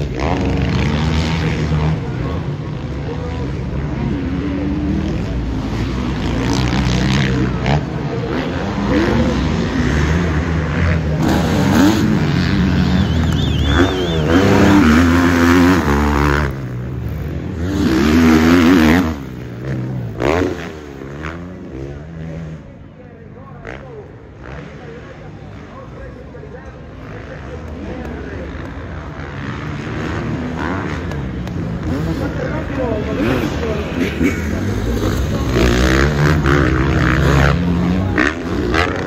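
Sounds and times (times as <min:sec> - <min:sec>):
motocross bikes revving past: 0:00.0 - 0:39.0.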